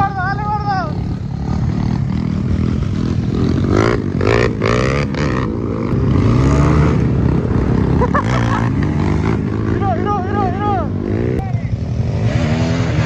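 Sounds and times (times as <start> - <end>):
small motorcycle engines: 0.0 - 13.0.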